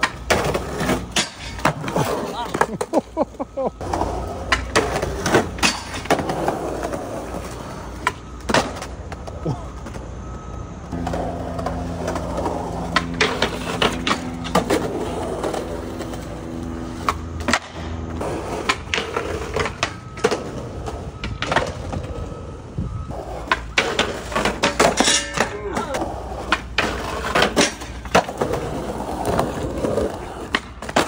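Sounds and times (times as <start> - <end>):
skateboard clattering on concrete: 0.0 - 3.2, 3.8 - 10.0, 10.9 - 22.2, 23.1 - 31.0
skateboard wheels rolling on concrete: 0.0 - 31.0.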